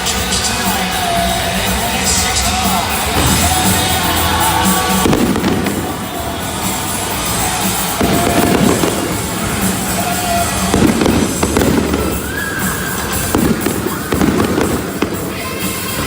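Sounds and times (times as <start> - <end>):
fireworks bursting and crackling: 0.0 - 16.0
music: 0.0 - 16.0.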